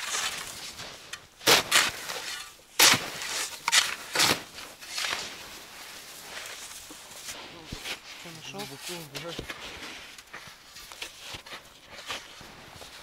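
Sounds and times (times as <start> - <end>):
shovels scraping snow: 0.0 - 13.0.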